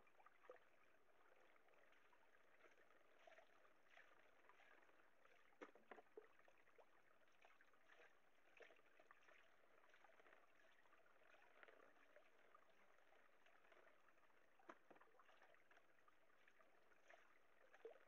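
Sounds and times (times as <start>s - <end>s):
small water splashes: 0.0s - 18.0s
water sloshing in a pan: 0.0s - 18.0s.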